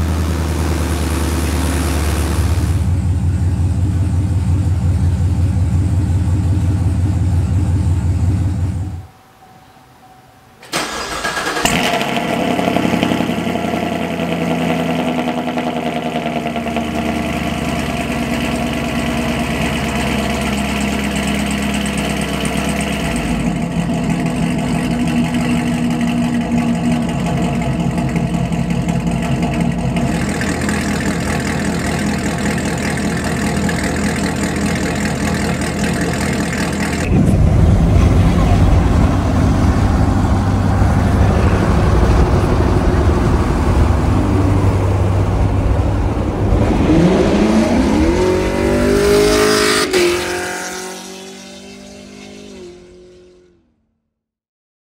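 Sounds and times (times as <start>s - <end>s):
car engine starting and idling: 0.0s - 9.6s, 10.5s - 53.2s.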